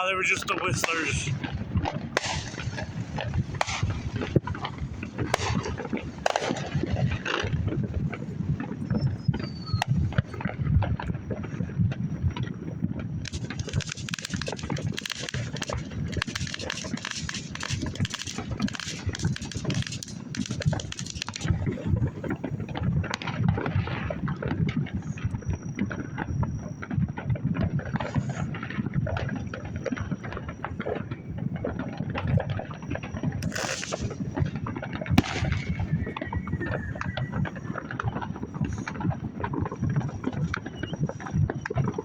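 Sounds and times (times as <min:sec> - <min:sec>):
fireworks popping and crackling: 0:00.0 - 0:42.0
wind rumbling on microphone: 0:00.0 - 0:42.0.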